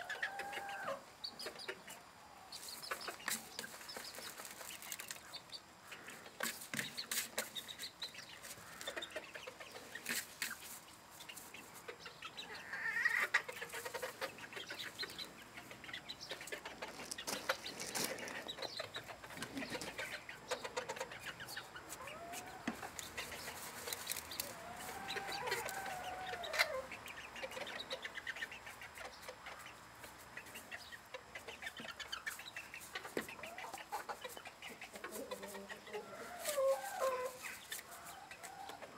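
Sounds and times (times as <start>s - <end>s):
hens clucking: 0.0s - 38.9s
scratching and pecking in soil: 2.6s - 38.9s.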